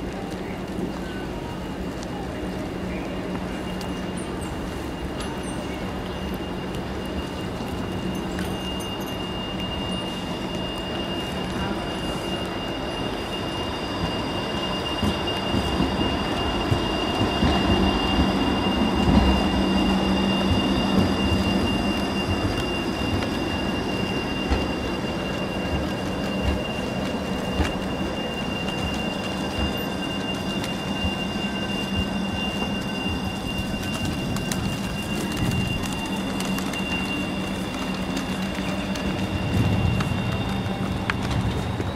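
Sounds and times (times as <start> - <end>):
tram motor hum and whine: 0.0 - 41.9
wheels rumbling on rails: 0.0 - 41.9.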